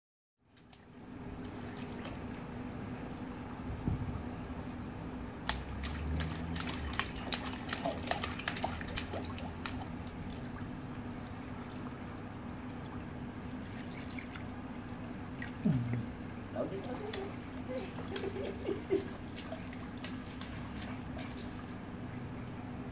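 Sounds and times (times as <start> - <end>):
steady low hum: 0.4 - 22.9
pool water splashing: 0.5 - 22.4.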